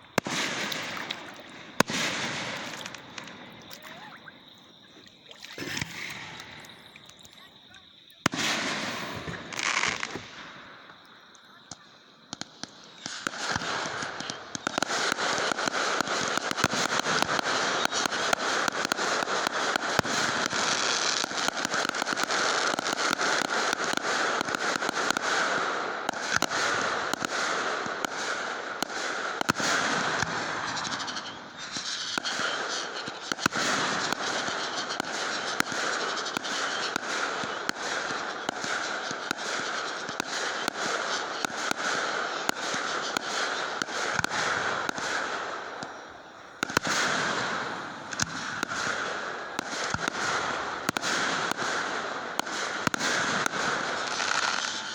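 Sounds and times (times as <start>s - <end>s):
fireworks crackling: 0.0s - 54.9s.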